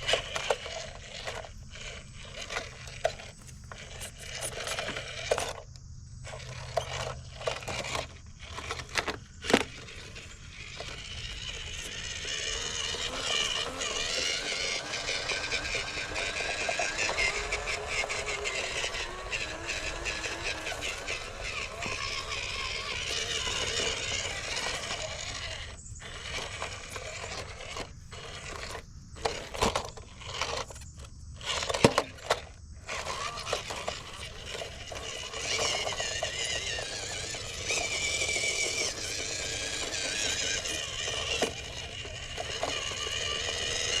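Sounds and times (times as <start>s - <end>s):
electric motor whining: 0.0s - 44.0s
tyres scraping: 0.0s - 44.0s.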